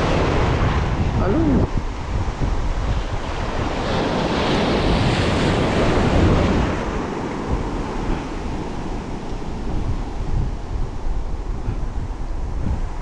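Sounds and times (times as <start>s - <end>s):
surf rushing over reef: 0.0s - 13.0s
wind rumbling on microphone: 0.0s - 13.0s.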